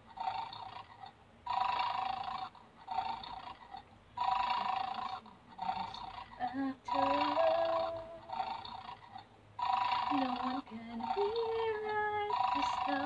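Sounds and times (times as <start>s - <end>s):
toy dog snoring through speaker: 0.1s - 13.0s.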